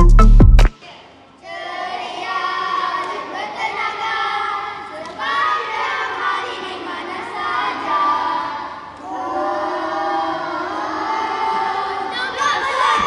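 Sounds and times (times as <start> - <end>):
children singing in unison: 0.8 - 13.0.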